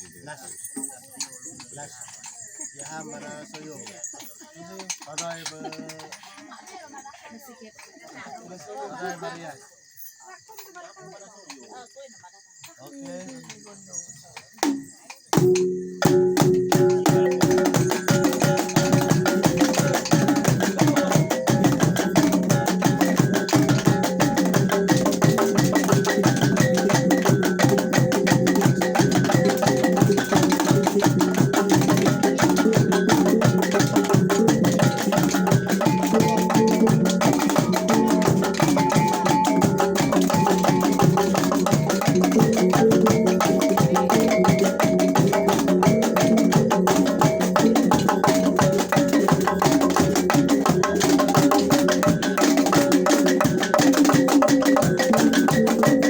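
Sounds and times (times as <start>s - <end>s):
tuned percussion ensemble music: 0.2s - 6.4s, 14.5s - 56.0s.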